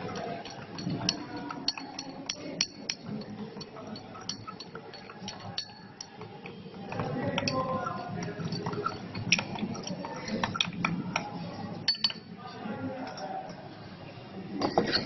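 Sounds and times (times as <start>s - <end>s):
spoon clinking against glass: 0.0s - 12.3s
spoon stirring liquid: 0.0s - 15.0s.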